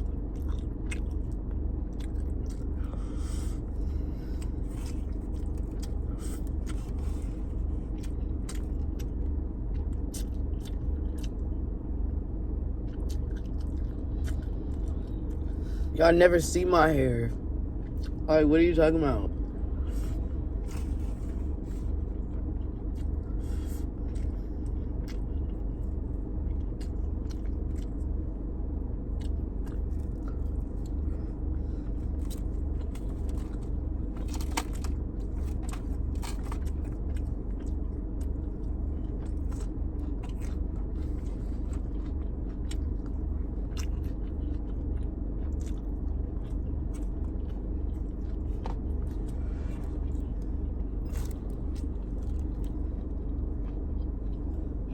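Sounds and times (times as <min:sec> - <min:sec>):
person chewing food: 0:00.0 - 0:16.0, 0:17.5 - 0:18.2, 0:19.0 - 0:54.9
low rumble: 0:00.0 - 0:54.9.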